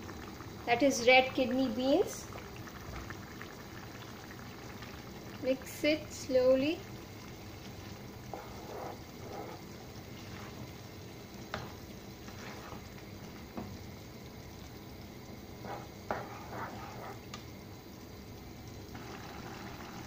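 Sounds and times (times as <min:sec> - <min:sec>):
curry sizzling in a pan: 0:00.0 - 0:20.0.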